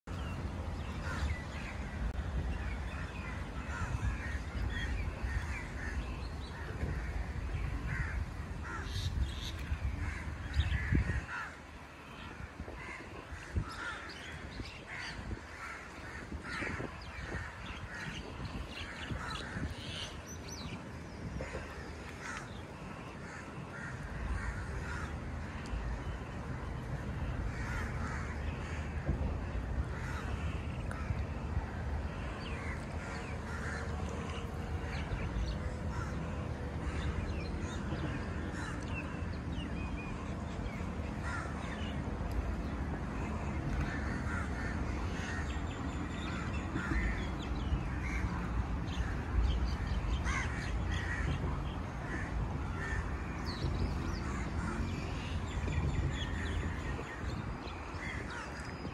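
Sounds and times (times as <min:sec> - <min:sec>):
birds calling: 0:00.1 - 0:31.4, 0:32.0 - 0:58.9.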